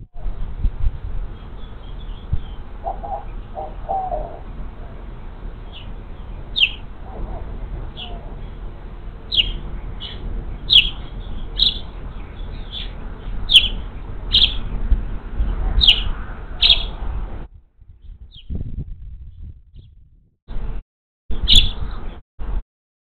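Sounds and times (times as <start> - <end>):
low rumble: 0.0 - 22.6
bird chirping: 0.1 - 17.3, 17.9 - 18.6, 21.4 - 22.2.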